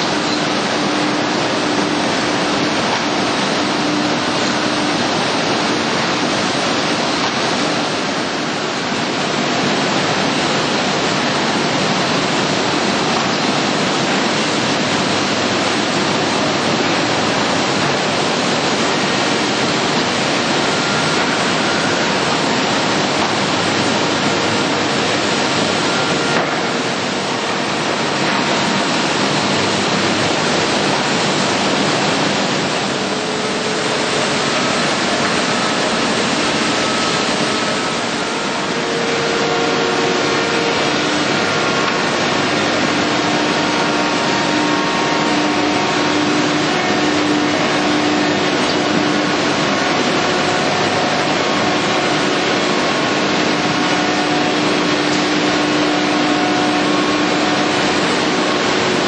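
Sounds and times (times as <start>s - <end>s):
sanding machines rushing noise: 0.0s - 59.0s.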